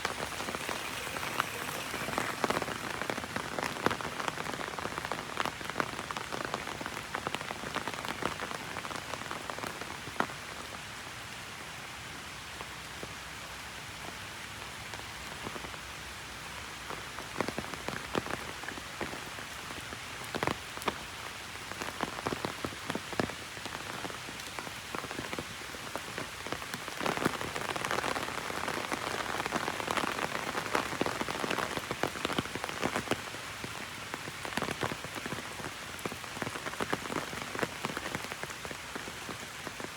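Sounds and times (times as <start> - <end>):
raindrops tapping canopy: 0.0 - 10.3, 16.8 - 39.9
heavy rain on an umbrella: 0.0 - 39.9.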